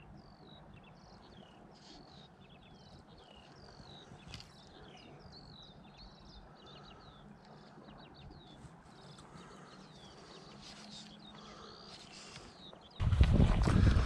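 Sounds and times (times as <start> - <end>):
low outdoor background: 0.0 - 14.0.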